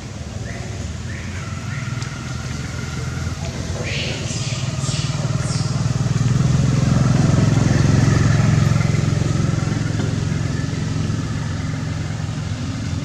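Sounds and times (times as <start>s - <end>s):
motorbike engine passing by: 1.0s - 13.0s.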